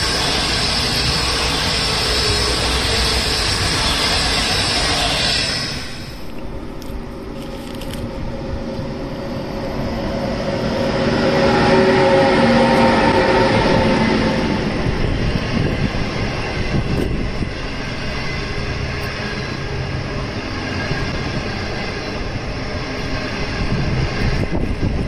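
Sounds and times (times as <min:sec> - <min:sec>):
electric locomotive droning hum: 0:00.0 - 0:25.0
train coaches rumbling on rails: 0:00.0 - 0:25.0.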